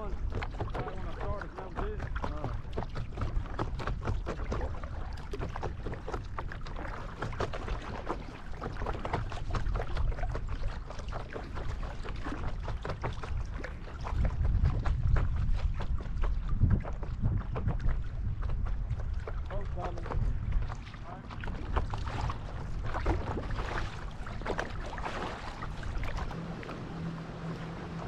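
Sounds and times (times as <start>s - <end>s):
water splashing around paddle craft: 0.0s - 28.0s
wind rumble on microphone: 0.0s - 28.0s.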